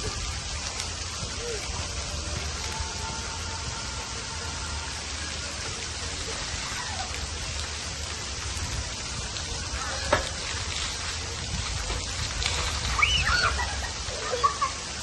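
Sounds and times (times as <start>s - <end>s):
faint children's voices: 0.0s - 15.0s
water spraying on wet pavement: 0.0s - 15.0s.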